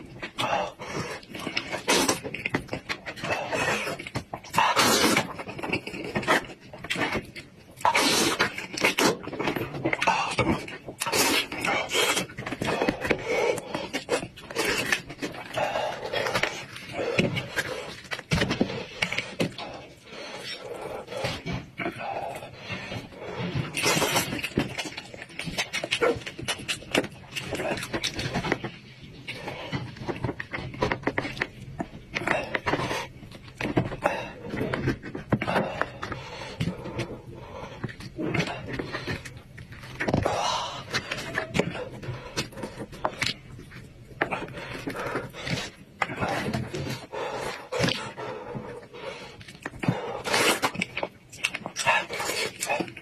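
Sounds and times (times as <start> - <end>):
chewing and smacking: 0.0 - 53.0
meat tearing and scraping: 0.0 - 53.0.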